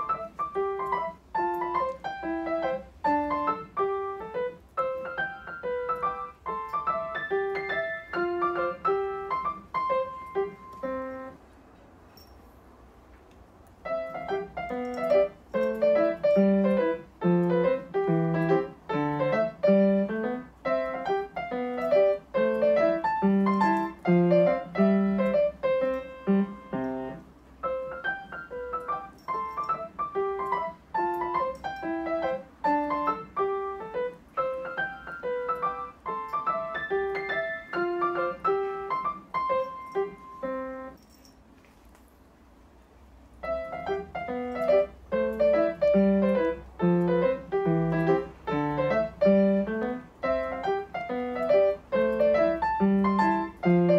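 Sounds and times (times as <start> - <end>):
piano bass line: 0.0 - 11.4, 13.9 - 41.0, 43.4 - 53.9
piano melody: 0.0 - 11.6, 13.8 - 41.0, 43.4 - 53.9.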